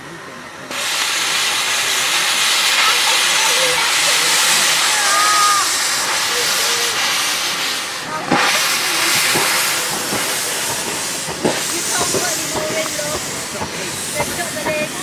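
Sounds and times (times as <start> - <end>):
steam hissing: 0.0 - 15.0.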